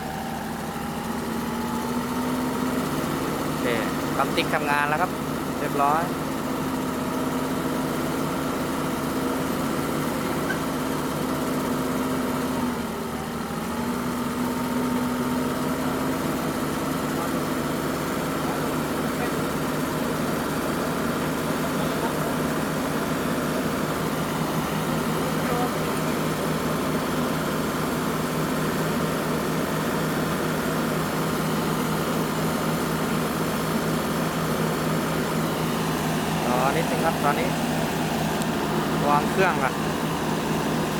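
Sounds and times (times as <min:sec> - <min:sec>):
diesel engine running: 0:00.0 - 0:40.9
electric fuel pump: 0:02.8 - 0:40.9.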